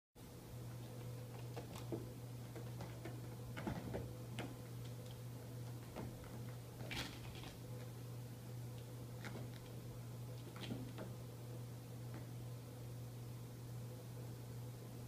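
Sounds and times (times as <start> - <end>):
steady low hum: 0.2 - 15.0.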